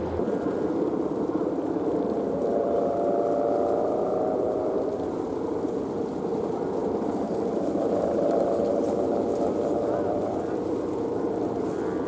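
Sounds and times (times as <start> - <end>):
kite hummer droning: 0.0 - 12.0
strong wind: 0.0 - 12.0.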